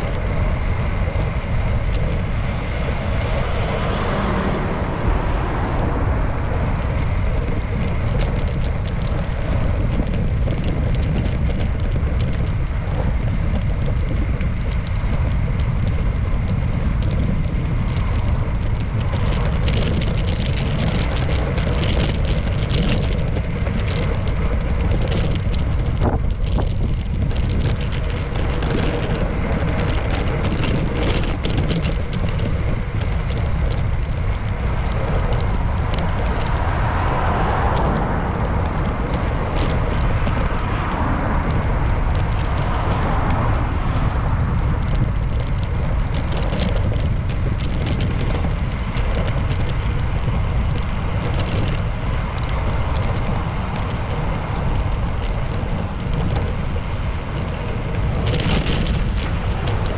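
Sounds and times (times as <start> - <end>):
bicycle clicks and rattles: 0.0 - 59.9
wind and road rumble: 0.0 - 59.9.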